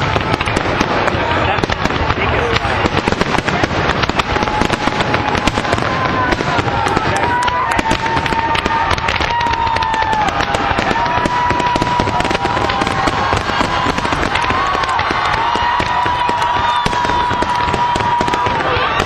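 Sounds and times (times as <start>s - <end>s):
firework whistling: 0.0s - 19.0s
fireworks crackling and banging: 0.0s - 19.0s.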